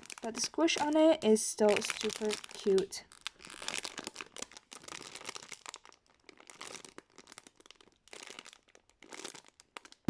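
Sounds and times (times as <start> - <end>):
plastic crinkling and rustling: 0.0 - 10.0.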